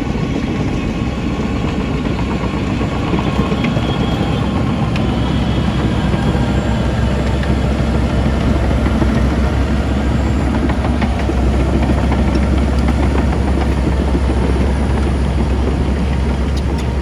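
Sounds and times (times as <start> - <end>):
diesel earthmoving machinery droning: 0.0 - 17.0.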